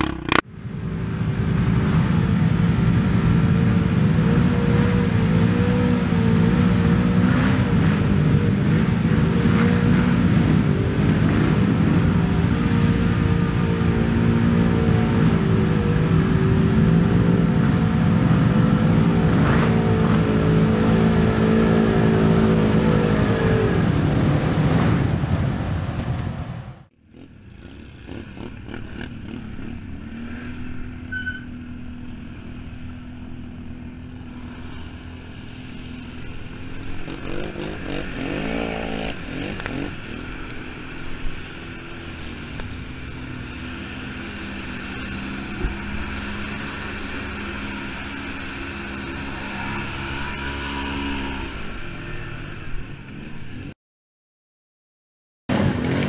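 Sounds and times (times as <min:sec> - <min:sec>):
quieter engine revving: 0:00.0 - 0:25.8, 0:26.9 - 0:53.8
quad engine running: 0:00.0 - 0:26.3, 0:26.9 - 0:53.7, 0:55.5 - 0:56.0.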